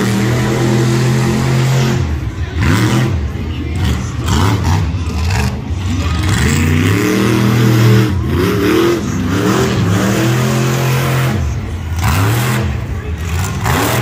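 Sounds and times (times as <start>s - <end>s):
truck engine revving hard: 0.0s - 14.0s.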